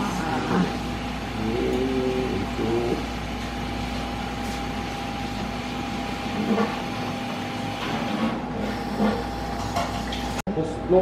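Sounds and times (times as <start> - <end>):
mechanical hum: 0.0 - 11.0
thin steady whine: 0.0 - 11.0.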